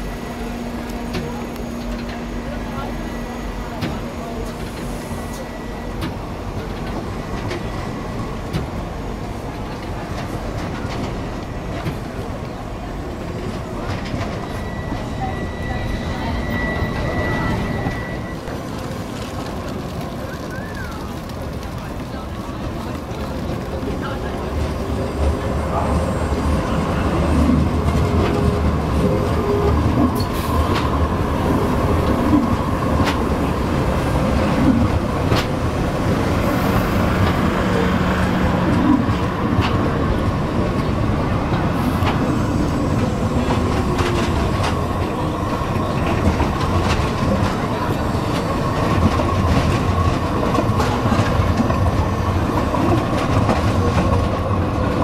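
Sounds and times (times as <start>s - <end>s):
tram rumble: 0.0s - 55.0s.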